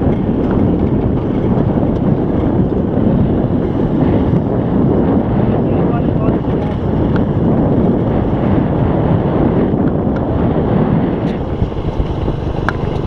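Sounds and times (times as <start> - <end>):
motorcycle engine: 0.0 - 13.0
wind buffeting microphone: 0.0 - 13.0.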